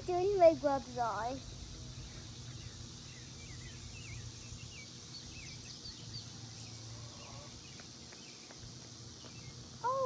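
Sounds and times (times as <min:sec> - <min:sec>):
small birds twittering: 0:00.0 - 0:10.0.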